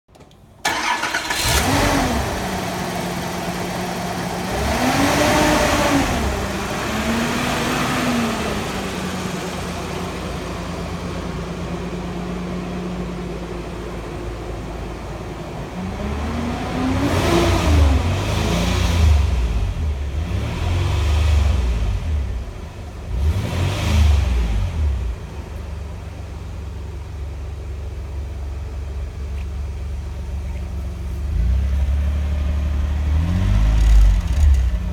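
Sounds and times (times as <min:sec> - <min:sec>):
car engine revving and idling: 0:00.6 - 0:34.9.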